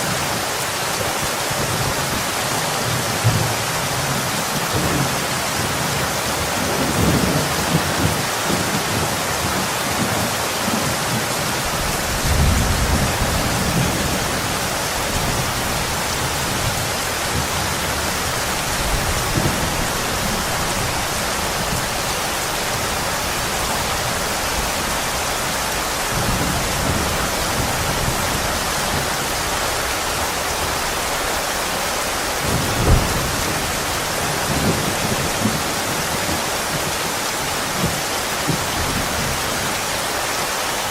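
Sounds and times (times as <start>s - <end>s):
heavy rain: 0.0s - 40.9s
distant thunder rumbling: 3.2s - 39.4s
thunder clap: 4.5s - 31.5s, 32.1s - 39.4s.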